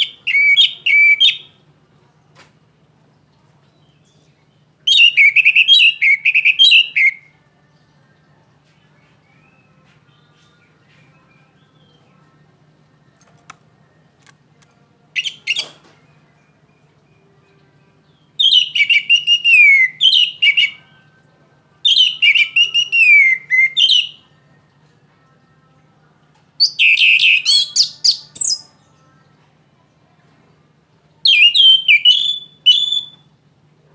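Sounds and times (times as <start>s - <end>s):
faint low hum: 0.0s - 33.9s.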